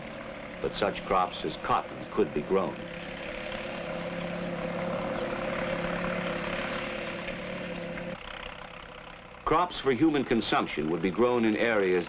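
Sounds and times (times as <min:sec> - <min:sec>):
machinery engine drone: 0:00.0 - 0:12.0.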